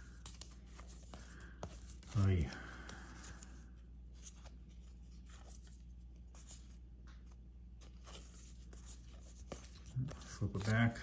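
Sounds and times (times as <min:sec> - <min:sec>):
low steady hum: 0:00.0 - 0:11.0
trading cards shuffling: 0:00.0 - 0:11.0.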